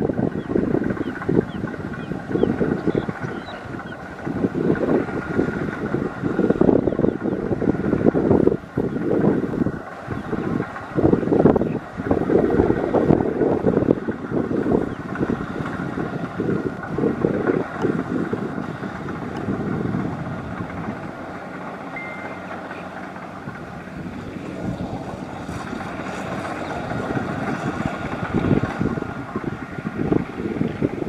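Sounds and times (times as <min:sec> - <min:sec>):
combine harvester engine running: 0:00.0 - 0:31.0
wind buffeting microphone: 0:00.0 - 0:31.0.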